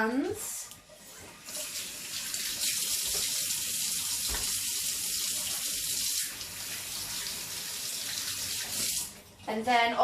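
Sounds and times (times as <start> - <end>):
tap water running into sink: 0.2 - 9.5.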